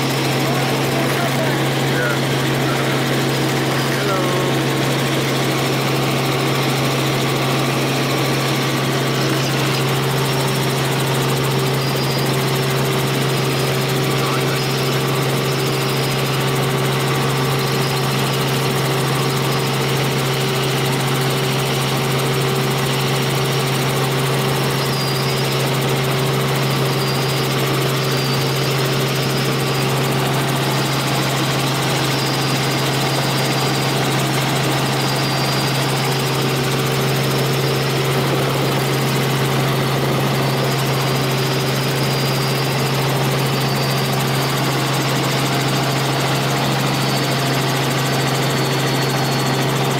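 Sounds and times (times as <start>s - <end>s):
helicopter engine and rotors drone: 0.0s - 49.9s.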